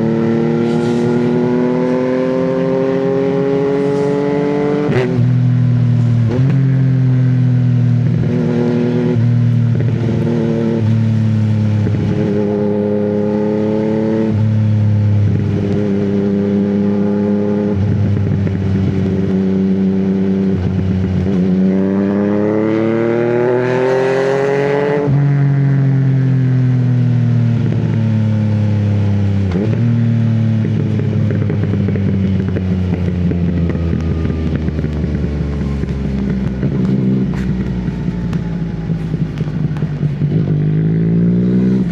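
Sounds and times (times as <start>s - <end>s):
motorcycle engine revving through gears: 0.0s - 41.9s.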